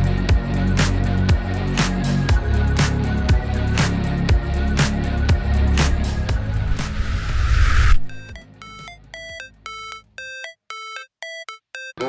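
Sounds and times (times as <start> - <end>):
hip-hop instrumental beat: 0.0 - 12.0.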